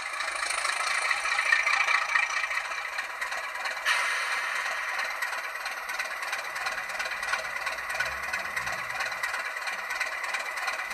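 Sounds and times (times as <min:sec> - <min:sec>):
diesel engine sound through small speaker: 0:00.0 - 0:10.9.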